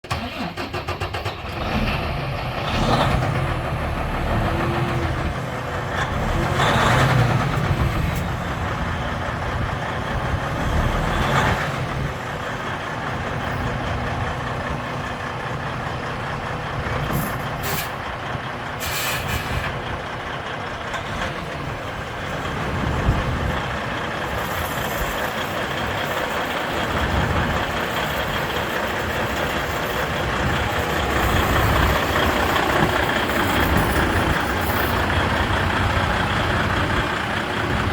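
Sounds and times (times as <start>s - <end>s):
diesel truck engine running: 0.0s - 37.9s.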